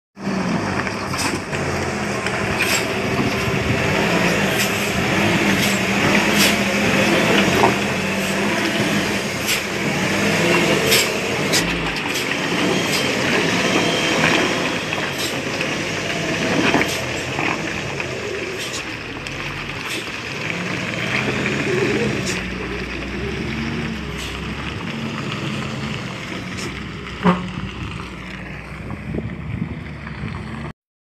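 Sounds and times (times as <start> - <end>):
truck diesel engine running: 0.2 - 30.7.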